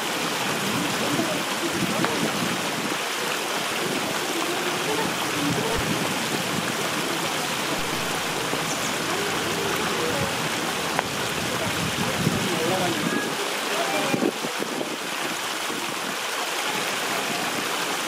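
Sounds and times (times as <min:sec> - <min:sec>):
water rushing over a weir: 0:00.0 - 0:18.0.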